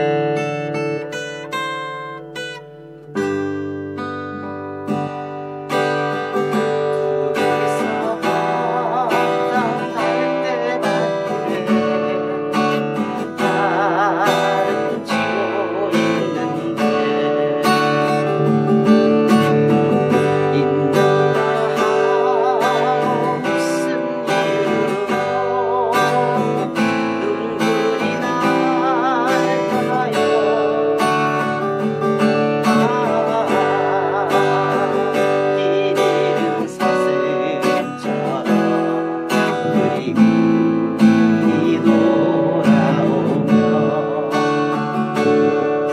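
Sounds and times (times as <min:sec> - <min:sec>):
acoustic guitar strumming: 0:00.0 - 0:45.9
wavering melody with vibrato: 0:00.0 - 0:45.9.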